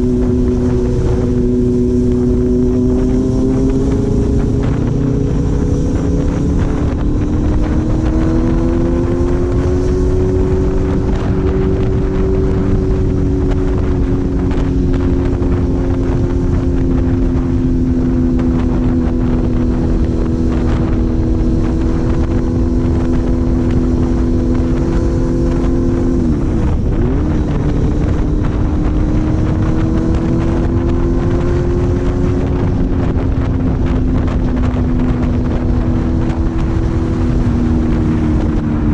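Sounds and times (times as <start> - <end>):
engine running at high revs: 0.0 - 38.9
wind rumbling on microphone: 0.0 - 38.9.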